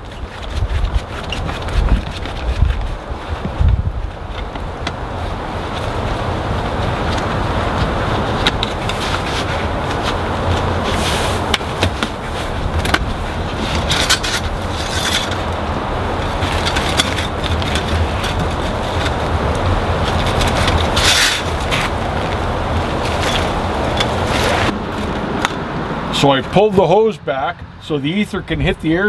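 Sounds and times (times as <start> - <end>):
engine running: 0.0 - 26.7.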